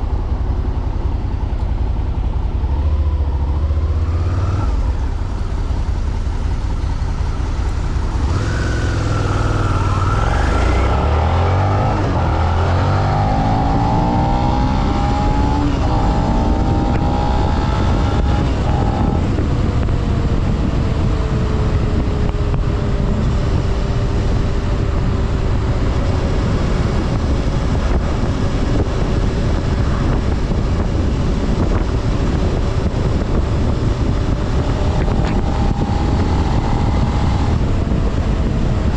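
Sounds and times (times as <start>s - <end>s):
heavy wind noise: 0.0s - 38.9s
motorcycle engine revving: 2.4s - 38.9s.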